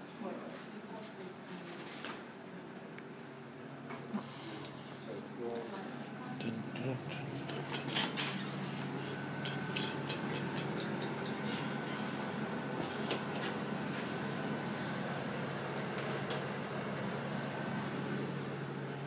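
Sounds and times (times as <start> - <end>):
refrigeration machinery hum: 2.5 - 19.0.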